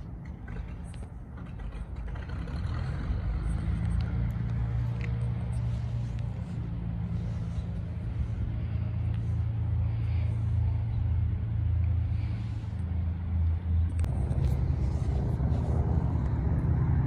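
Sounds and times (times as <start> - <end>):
propeller aircraft engines idling: 0.0 - 17.0.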